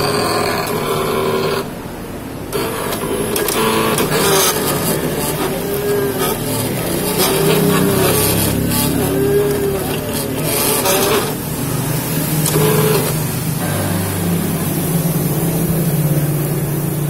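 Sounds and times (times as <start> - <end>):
cutting plotter motors whirring: 0.0 - 17.0.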